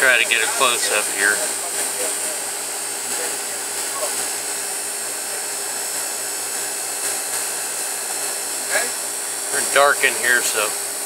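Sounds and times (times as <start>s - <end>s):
steady mechanical hiss: 0.0s - 11.0s.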